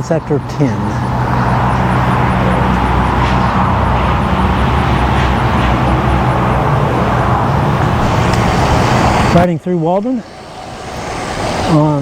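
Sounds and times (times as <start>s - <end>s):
bike road noise: 0.0s - 12.0s
car traffic: 0.0s - 12.0s.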